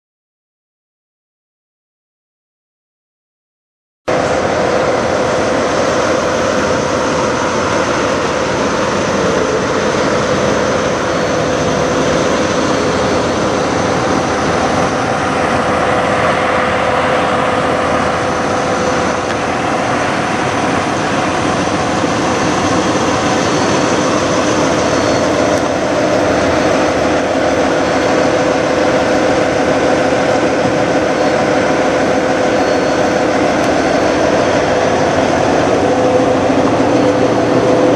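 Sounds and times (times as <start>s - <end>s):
diesel trucks idling: 4.1s - 37.9s.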